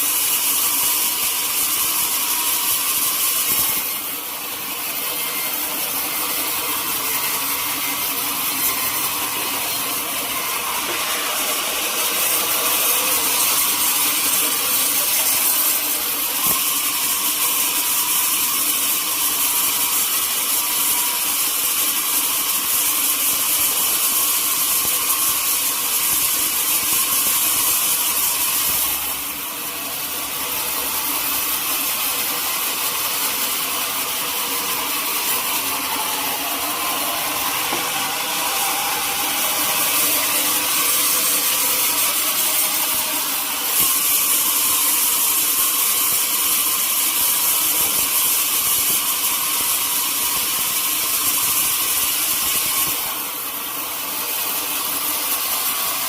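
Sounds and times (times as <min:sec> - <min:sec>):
sawmill saw cutting log: 0:00.0 - 0:56.0.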